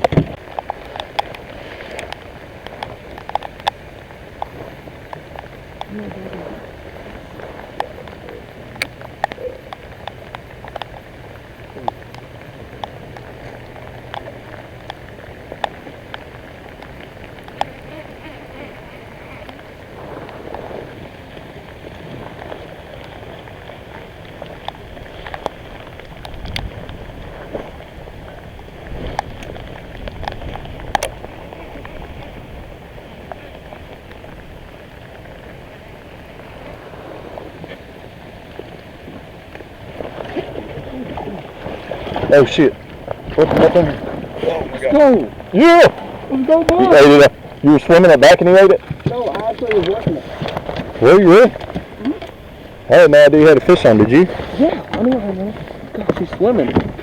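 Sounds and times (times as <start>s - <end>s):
heavy raindrops ticking: 0.0s - 36.6s, 38.4s - 57.0s
rain falling: 0.0s - 57.0s.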